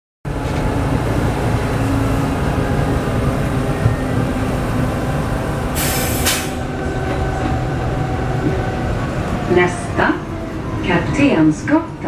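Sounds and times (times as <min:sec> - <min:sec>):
tram rumbling on rails: 0:00.2 - 0:12.0.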